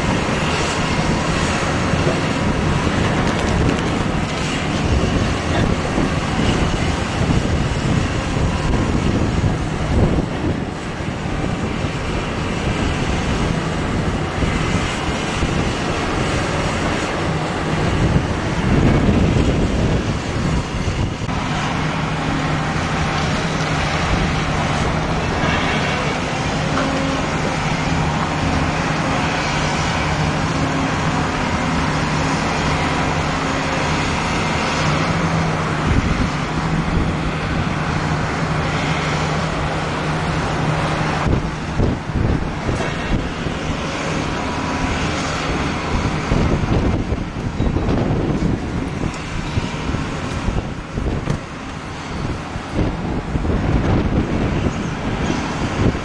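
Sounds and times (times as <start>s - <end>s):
engine hum: 0.0s - 56.0s
rushing noise: 0.0s - 56.0s.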